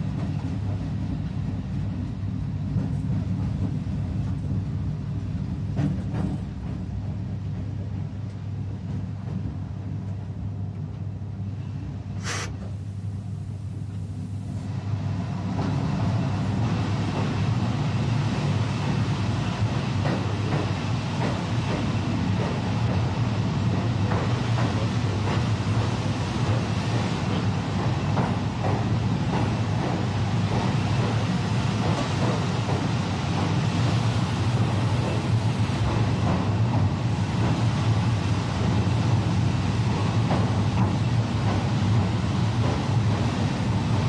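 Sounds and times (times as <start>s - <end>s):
train rumbling in a tunnel: 0.0s - 44.0s.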